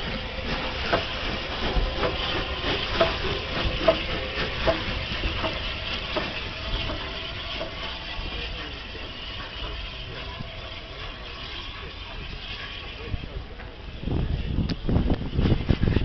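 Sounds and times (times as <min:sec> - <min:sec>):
metallic clanks from wheels: 0:00.0 - 0:14.0
steam hissing: 0:00.0 - 0:16.0.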